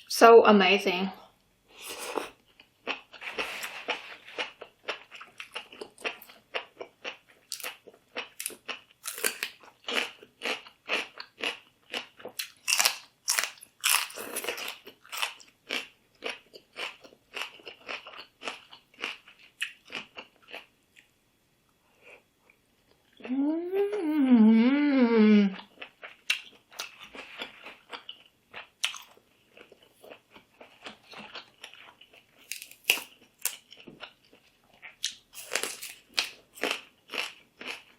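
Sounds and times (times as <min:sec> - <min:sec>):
person chewing crunchy food: 0:01.7 - 0:21.1, 0:25.6 - 0:37.9.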